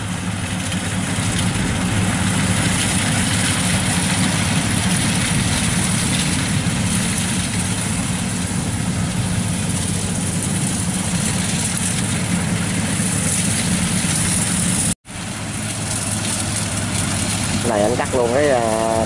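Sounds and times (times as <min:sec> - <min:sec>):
combine harvester diesel engine drone: 0:00.0 - 0:19.0
constant hiss: 0:00.0 - 0:19.0.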